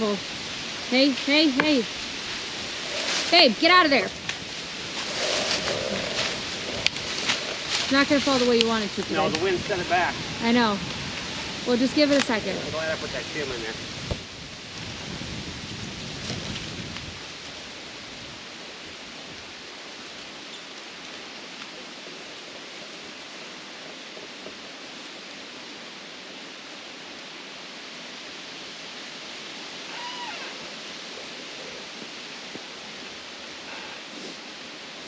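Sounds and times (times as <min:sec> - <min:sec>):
wind rustling trees: 0:00.0 - 0:35.0.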